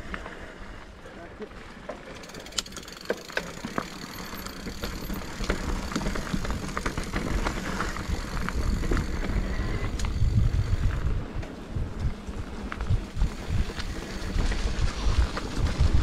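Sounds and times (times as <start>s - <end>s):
bike rattles and clicks: 0.0s - 16.0s
bike tyres rolling over stones: 0.0s - 16.0s.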